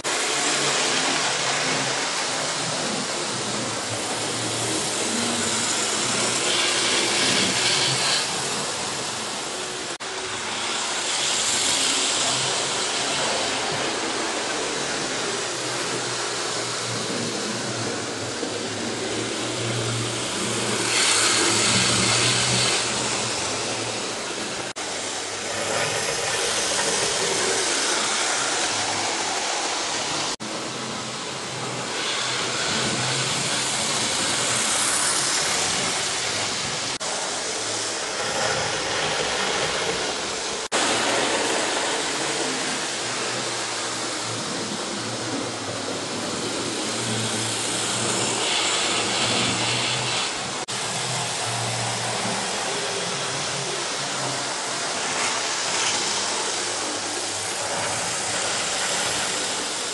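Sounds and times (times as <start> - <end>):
model train motors whirring: 0.0 - 59.9.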